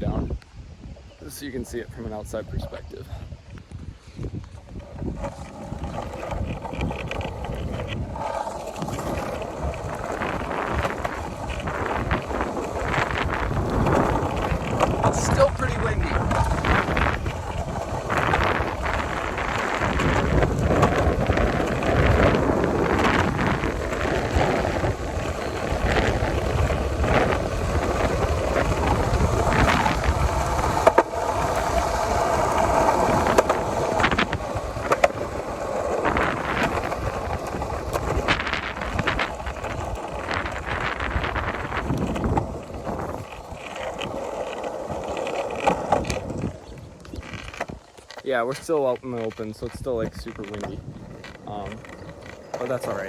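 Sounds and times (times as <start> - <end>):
longboard wheels on asphalt: 0.0 - 53.0
wind buffeting microphone: 0.0 - 53.0.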